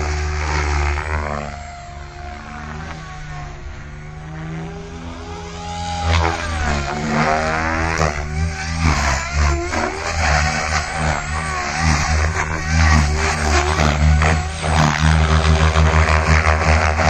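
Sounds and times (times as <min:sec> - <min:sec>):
electric motor whine: 0:00.0 - 0:17.0
rotor blades whooshing: 0:00.0 - 0:17.0.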